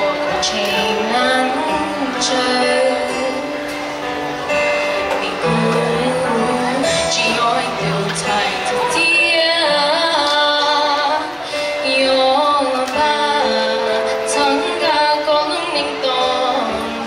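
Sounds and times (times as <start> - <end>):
woman singing: 0.0 - 3.7, 5.1 - 17.0
instrumental accompaniment: 0.0 - 17.0.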